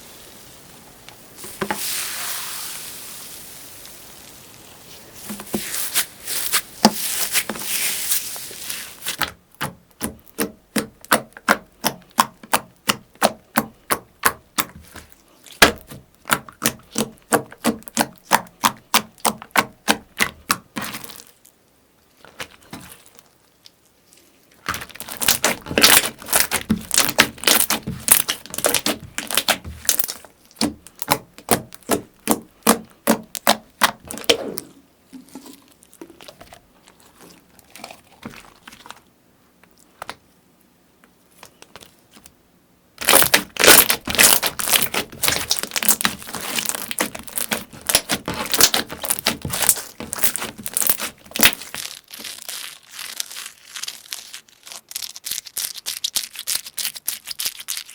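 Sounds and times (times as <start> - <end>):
slime crackling: 4.2 - 23.8, 24.6 - 39.1, 43.0 - 57.9.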